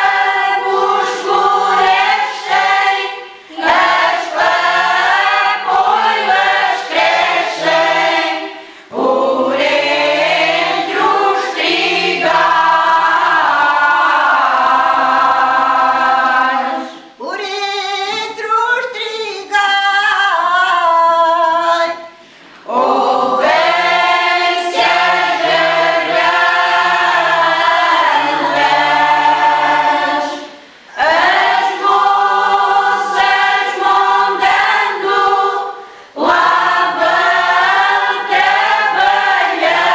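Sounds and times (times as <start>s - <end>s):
women's choir singing: 0.0s - 17.2s, 22.6s - 39.9s.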